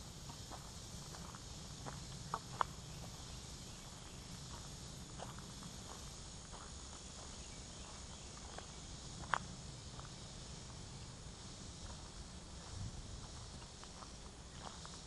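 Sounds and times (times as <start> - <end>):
insects humming: 0.0 - 15.0
footsteps on dirt trail: 0.3 - 10.5, 11.4 - 15.0.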